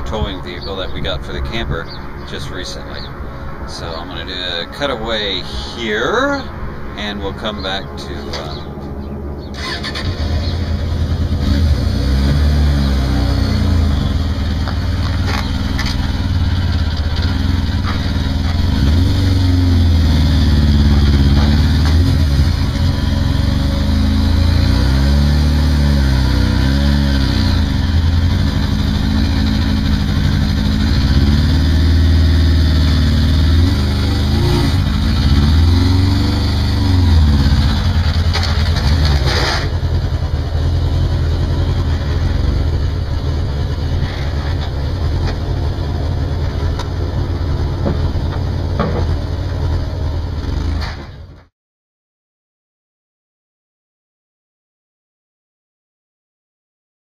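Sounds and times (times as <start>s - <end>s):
motorcycle engine revving: 3.8s - 51.4s.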